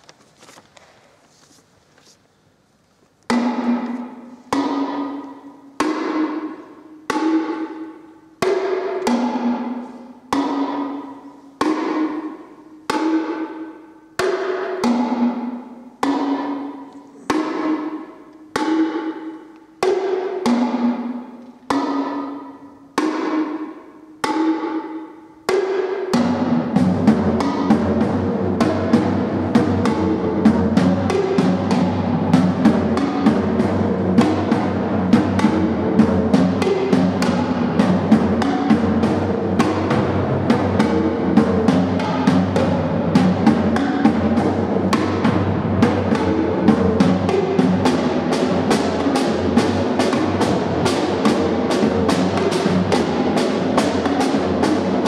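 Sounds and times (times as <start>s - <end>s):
timpani strokes ringing: 3.3s - 55.0s.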